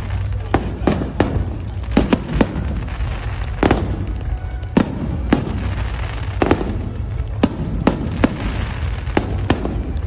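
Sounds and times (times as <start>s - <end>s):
constant low rumble: 0.0s - 10.0s
fireworks bangs: 0.0s - 10.0s.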